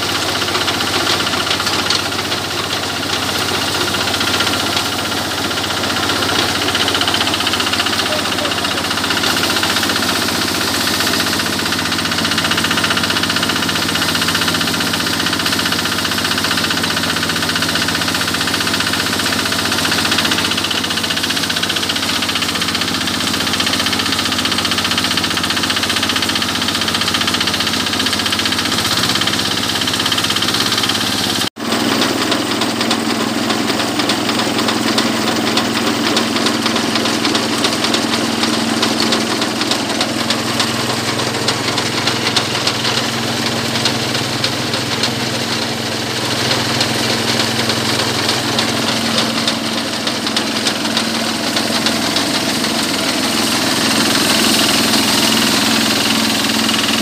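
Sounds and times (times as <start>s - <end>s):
diesel engine running steadily: 0.0s - 57.0s.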